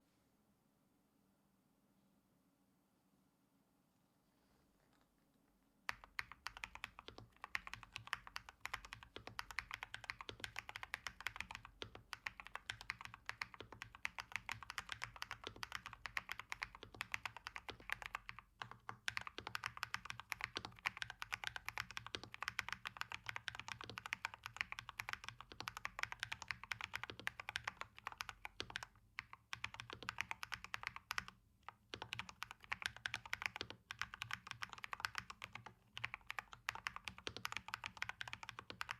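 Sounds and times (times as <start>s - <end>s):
mechanical keyboard typing: 5.9s - 38.9s.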